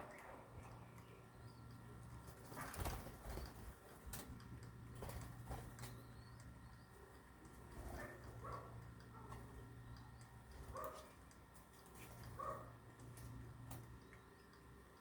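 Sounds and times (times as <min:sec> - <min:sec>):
birds calling softly: 0:00.0 - 0:15.0.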